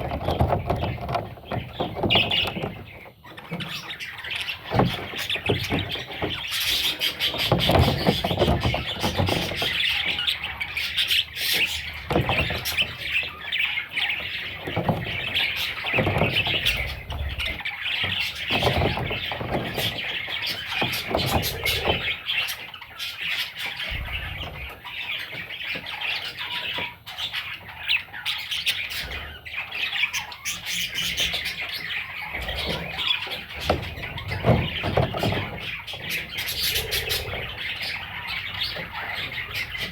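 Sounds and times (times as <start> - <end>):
bird chicks chirping and squawking: 0.0 - 39.9.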